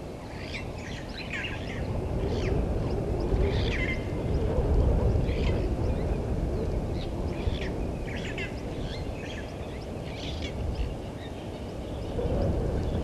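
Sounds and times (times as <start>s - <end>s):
birds chirping and trilling: 0.3s - 4.5s, 5.1s - 13.0s.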